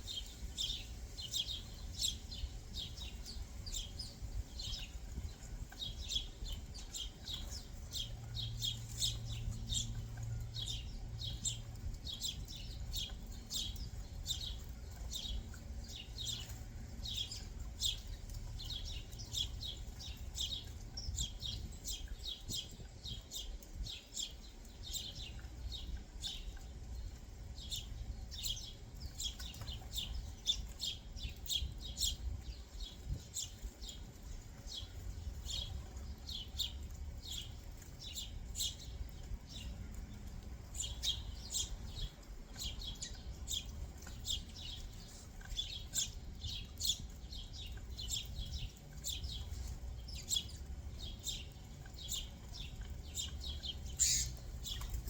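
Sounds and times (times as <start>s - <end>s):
low background rumble: 0.0s - 55.0s
songbirds chirping: 0.0s - 55.0s.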